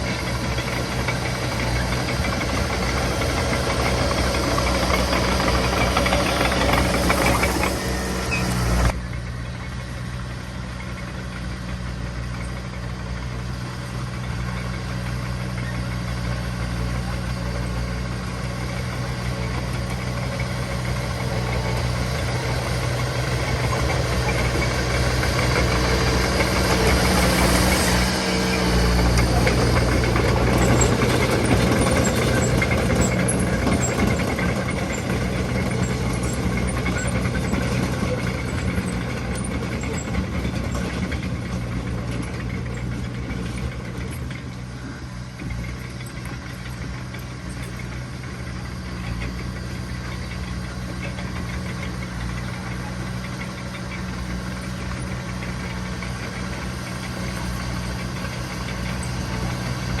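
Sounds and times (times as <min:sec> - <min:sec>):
heavy diesel engine running: 0:00.0 - 1:00.0.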